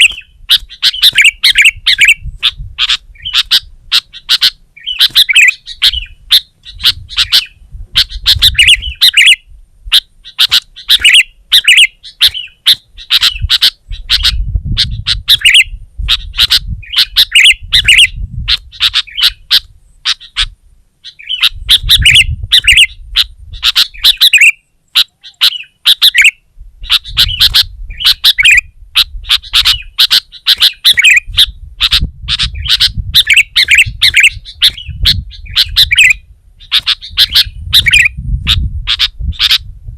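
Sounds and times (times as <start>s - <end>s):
bulbuls chirping: 0.0s - 39.7s.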